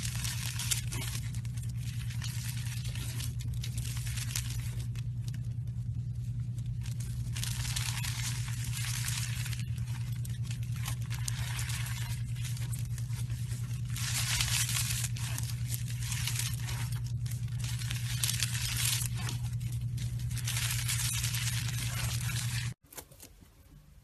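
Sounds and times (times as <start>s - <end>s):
slime squeezed crackling: 0.0s - 22.8s
steady low hum: 0.0s - 24.0s.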